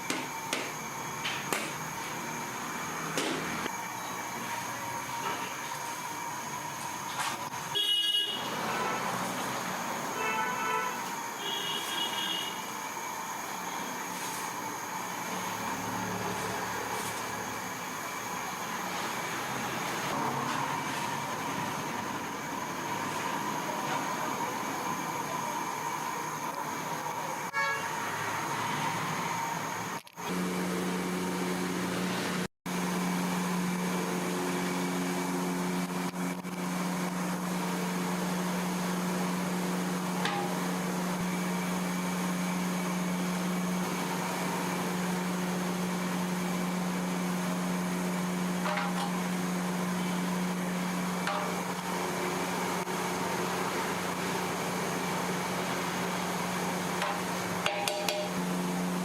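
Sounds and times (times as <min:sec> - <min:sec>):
mechanical hum with hiss: 0:00.0 - 0:59.0.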